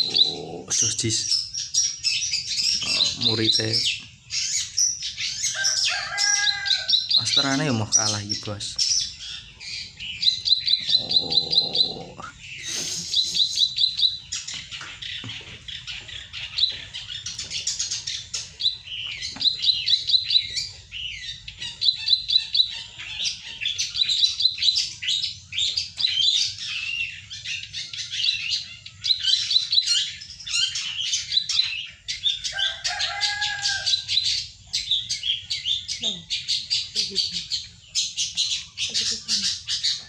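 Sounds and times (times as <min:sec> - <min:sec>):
songbird singing: 0:00.0 - 0:40.0.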